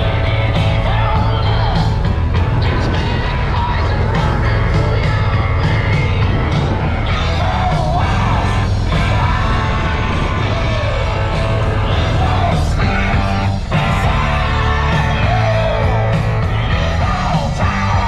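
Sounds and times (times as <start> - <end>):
rock song with singer and guitar: 0.0 - 18.0.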